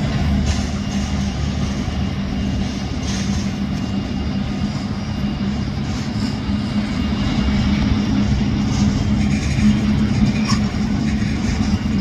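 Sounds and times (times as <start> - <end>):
jet engine drone: 0.0 - 12.0.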